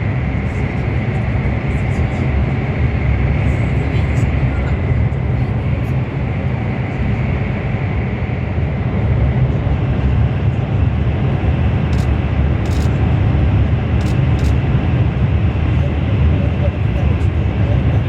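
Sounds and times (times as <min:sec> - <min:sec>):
train cabin low rumble: 0:00.0 - 0:18.0.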